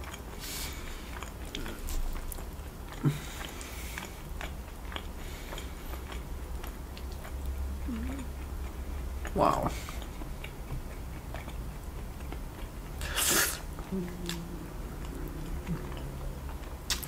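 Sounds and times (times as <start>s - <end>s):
chewing and mouth smacks: 0.0s - 17.0s.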